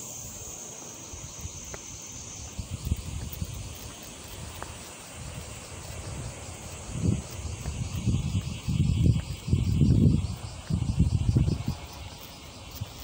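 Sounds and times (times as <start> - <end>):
cicadas buzzing: 0.0 - 13.0
wind buffeting microphone: 1.1 - 13.0.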